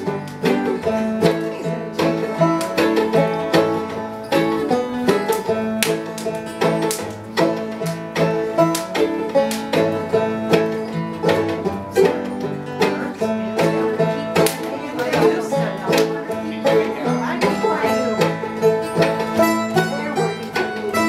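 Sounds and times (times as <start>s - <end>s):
acoustic guitar: 0.0s - 21.0s
banjo: 0.0s - 21.0s
fiddle: 0.0s - 21.0s.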